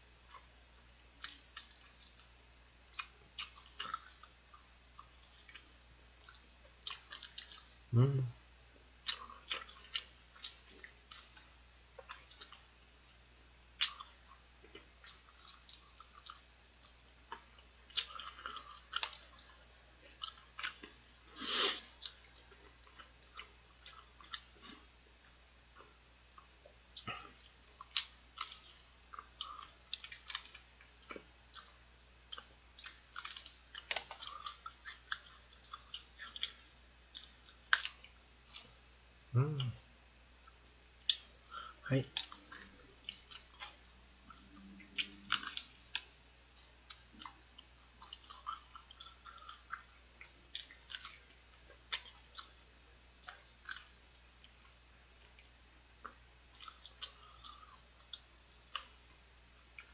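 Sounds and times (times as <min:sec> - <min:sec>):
chewing fried chicken: 0:00.0 - 0:08.1, 0:08.8 - 0:59.9.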